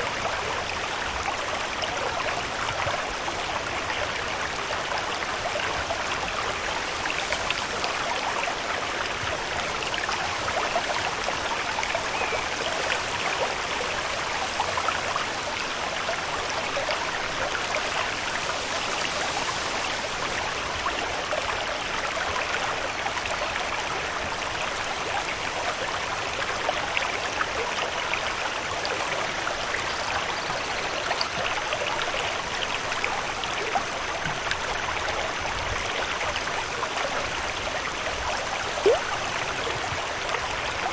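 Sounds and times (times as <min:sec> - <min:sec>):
running water patter: 0:00.0 - 0:40.9.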